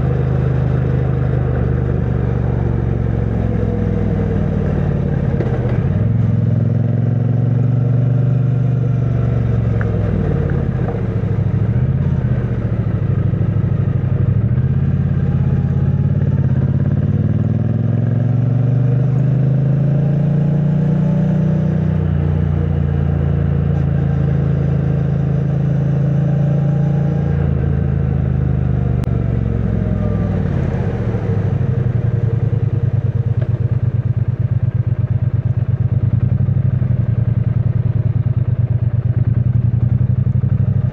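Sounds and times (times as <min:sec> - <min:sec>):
motorcycle engine under way: 0:00.0 - 0:40.9.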